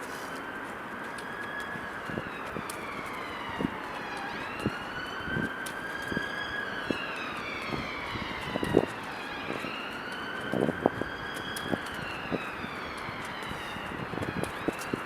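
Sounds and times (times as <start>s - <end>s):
siren wailing: 0.1s - 15.0s.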